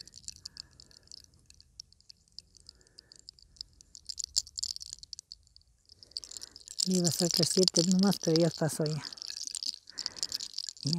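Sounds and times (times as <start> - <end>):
hair crackling between fingers: 0.0 - 10.9.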